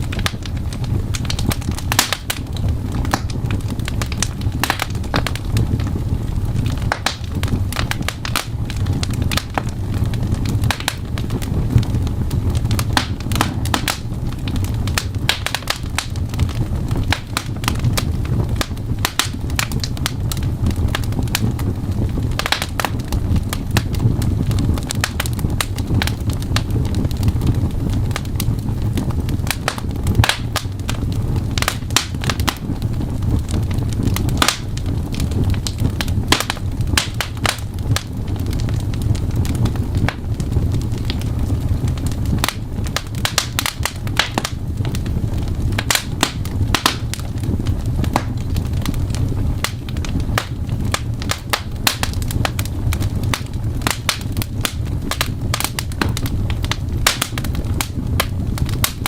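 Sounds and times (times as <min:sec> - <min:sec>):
fireplace crackling and popping: 0:00.0 - 0:59.0
steady low rumble: 0:00.0 - 0:59.0.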